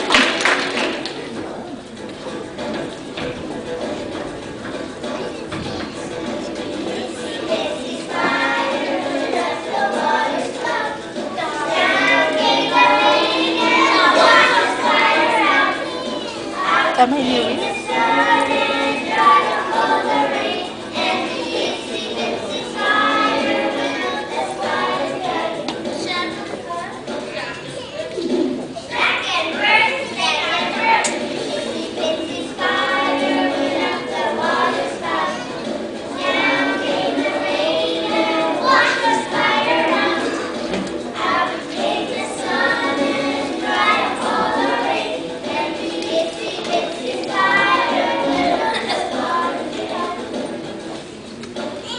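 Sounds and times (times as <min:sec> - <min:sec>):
music: 0:00.0 - 0:51.9
children singing together: 0:02.2 - 0:51.9.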